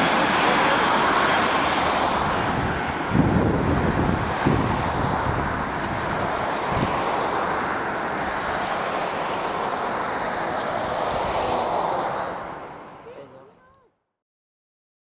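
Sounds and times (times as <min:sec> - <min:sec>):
wind buffeting microphone: 0:00.0 - 0:13.0
jet engines roaring: 0:00.0 - 0:13.1.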